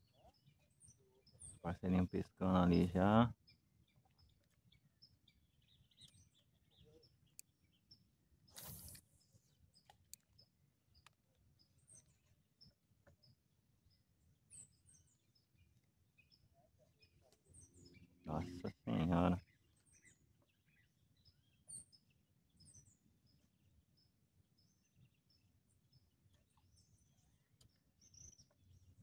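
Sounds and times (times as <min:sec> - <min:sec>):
small birds chirping faintly: 0:00.0 - 0:29.0.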